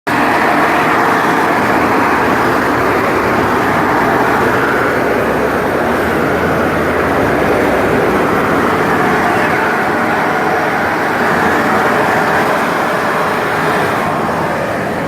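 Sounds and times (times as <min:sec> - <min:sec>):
loud steady street noise: 0:00.0 - 0:15.0.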